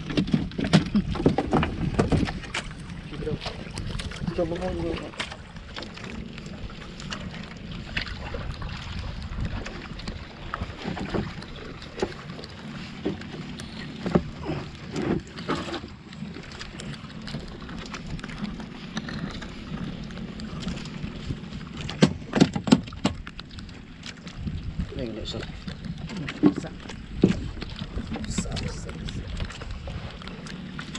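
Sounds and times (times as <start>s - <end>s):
water noise: 0.0s - 30.9s
wind: 0.0s - 30.9s.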